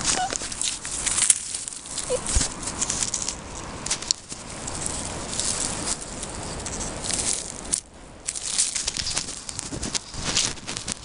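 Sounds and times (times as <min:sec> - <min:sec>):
dry grass rustling and crackling: 0:00.0 - 0:11.0.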